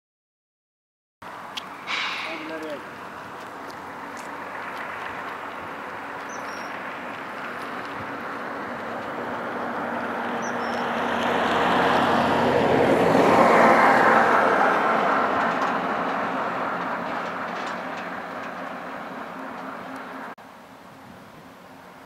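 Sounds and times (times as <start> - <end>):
vehicle passing by: 1.4 - 20.4.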